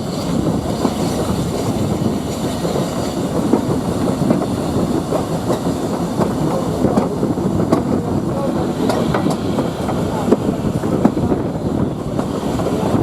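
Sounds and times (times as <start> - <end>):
train rumbling on track: 0.0 - 13.0
wheels clicking on rails: 0.0 - 13.0.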